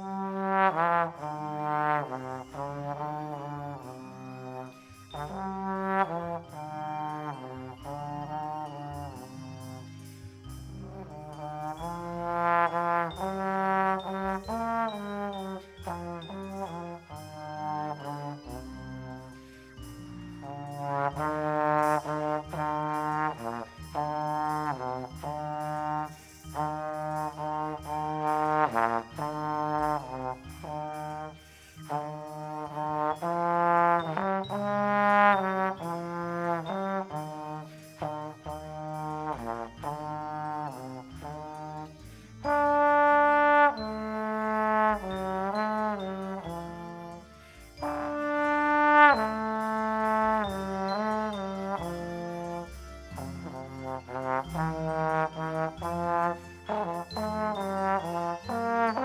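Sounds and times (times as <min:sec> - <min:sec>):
slide trombone melody: 0:00.0 - 0:59.0.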